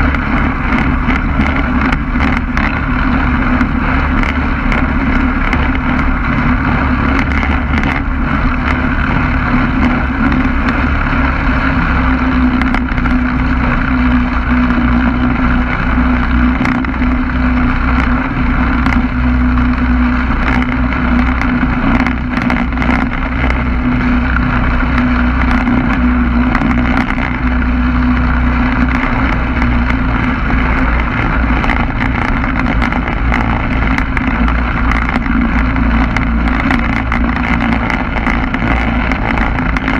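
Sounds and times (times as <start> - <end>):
two-stroke aircraft engine running: 0.0 - 39.9
wind buffeting microphone: 0.0 - 39.9.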